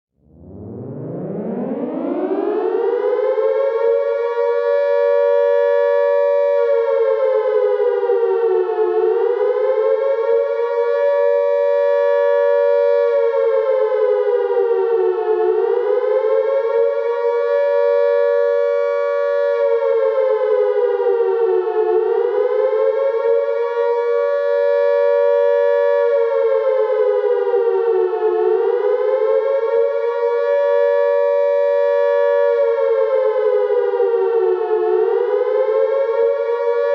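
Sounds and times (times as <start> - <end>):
air-raid siren wailing: 0.2 - 36.9.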